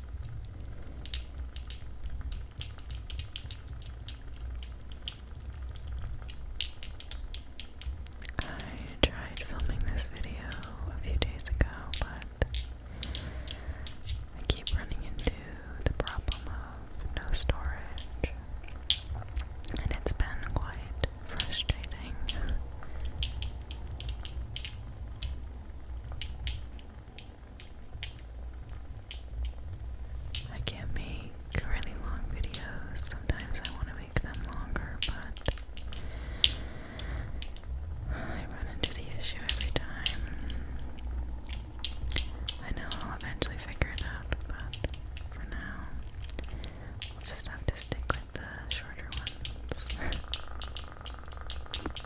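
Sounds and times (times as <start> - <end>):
candle crackling: 0.0 - 52.0
low steady hum: 0.0 - 52.0.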